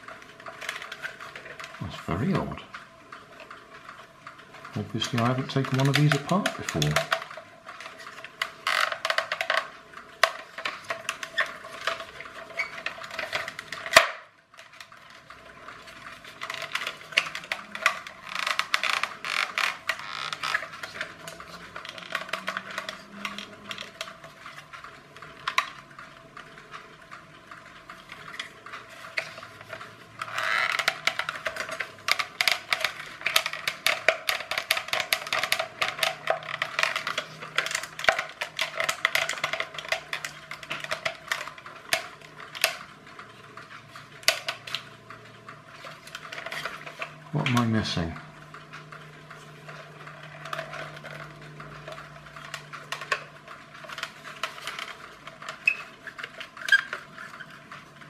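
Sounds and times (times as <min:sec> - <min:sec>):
hard plastic clicking and creaking: 0:00.0 - 0:58.0.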